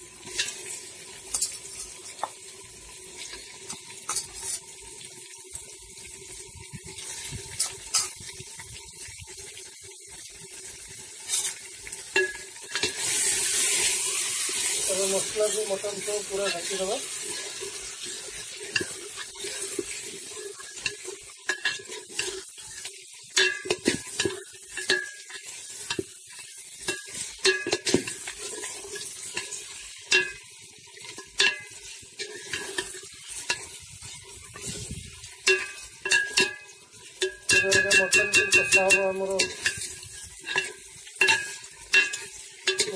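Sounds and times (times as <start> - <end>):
meat sizzling: 0.0 - 42.9
metal spoon scraping a pot: 0.2 - 2.3, 3.2 - 4.8, 7.0 - 8.3, 11.2 - 42.9.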